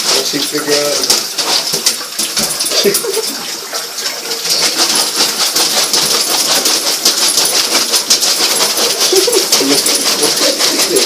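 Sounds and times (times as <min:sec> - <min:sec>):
dog pawing at drain: 0:00.0 - 0:11.0
water running into bathtub drain: 0:00.0 - 0:11.0.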